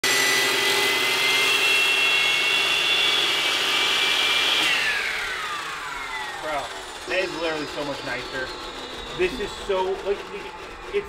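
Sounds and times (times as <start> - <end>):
masonry saw whining: 0.0 - 11.0
saw motor winding down: 0.0 - 11.0.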